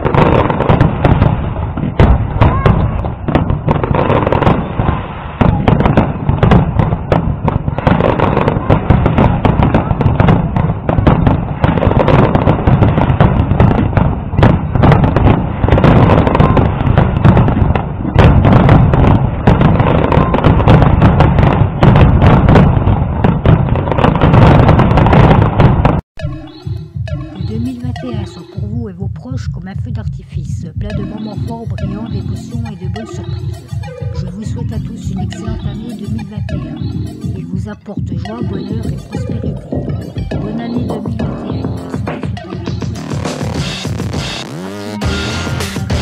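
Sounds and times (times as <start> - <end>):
fireworks bangs and crackle: 0.0 - 28.9, 30.8 - 46.0.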